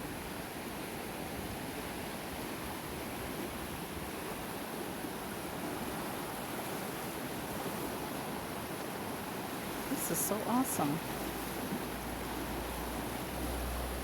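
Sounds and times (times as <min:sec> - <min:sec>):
creek rushing: 0:00.0 - 0:14.0.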